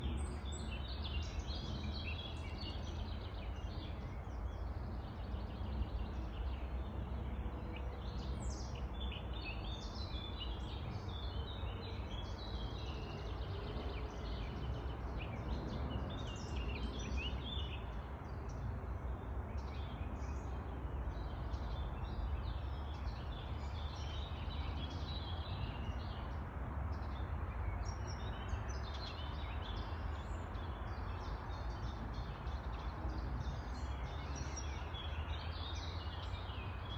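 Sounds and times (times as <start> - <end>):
songbirds singing and chirping: 0.0 - 36.9.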